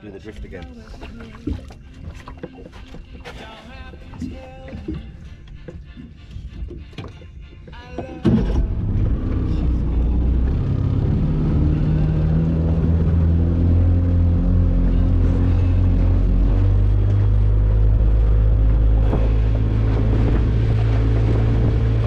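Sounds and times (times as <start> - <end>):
outboard motor starting and running: 0.0 - 22.0.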